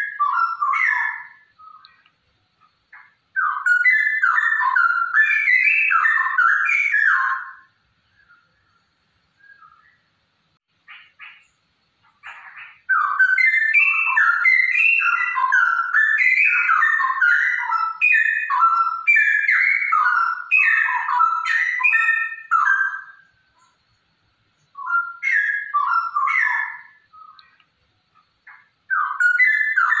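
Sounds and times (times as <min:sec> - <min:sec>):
bird singing whistled notes: 0:00.0 - 0:10.1, 0:10.9 - 0:30.0.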